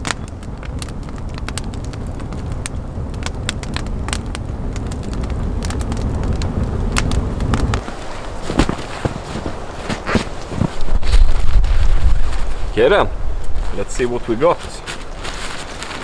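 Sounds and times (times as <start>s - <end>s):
campfire crackling: 0.0s - 16.0s
fire pops and snaps: 0.0s - 16.0s
low fire rumble: 0.0s - 16.0s.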